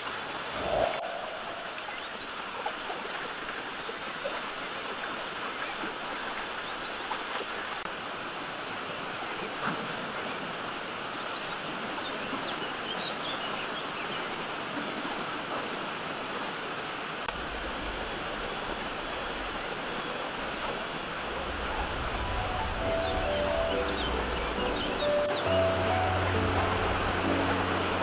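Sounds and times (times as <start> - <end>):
steady rushing outdoor noise: 0.0 - 28.0.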